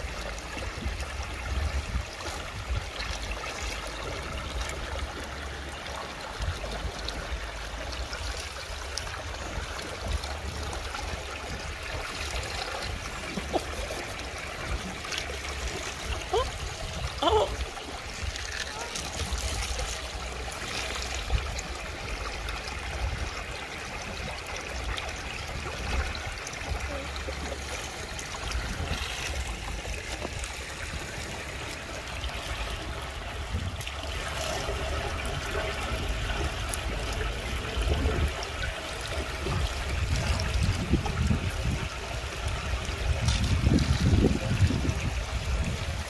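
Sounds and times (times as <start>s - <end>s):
water trickling down a channel: 0.0s - 46.0s.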